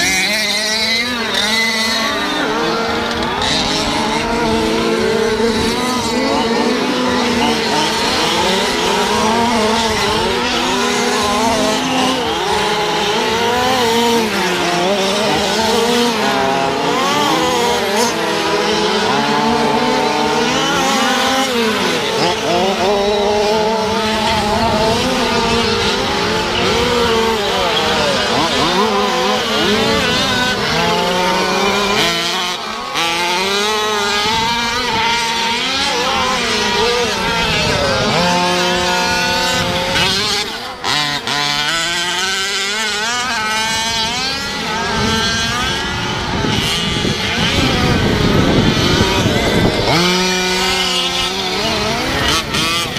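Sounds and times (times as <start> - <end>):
small two-stroke engines revving: 0.0 - 52.9.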